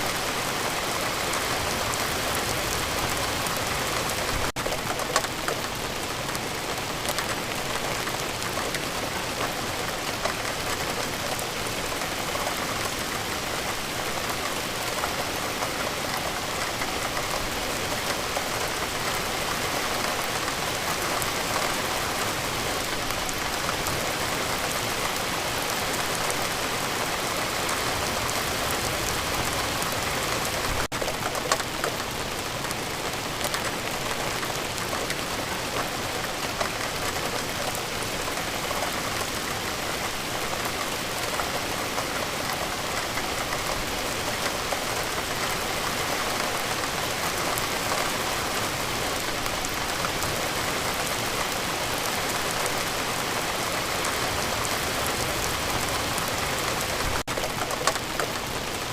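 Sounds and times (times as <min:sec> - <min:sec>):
louder raindrops: 0:00.0 - 0:58.9
steady rain falling: 0:00.0 - 0:58.9.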